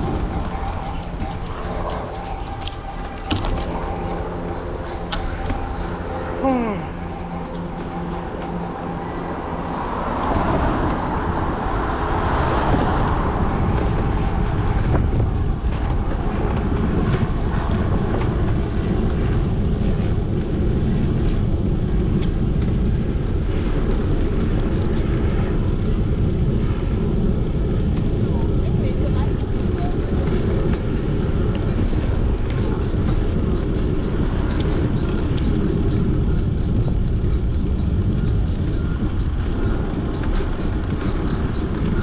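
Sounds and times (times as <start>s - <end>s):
road rumble: 0.0s - 42.0s
wind rush on microphone: 0.0s - 42.0s.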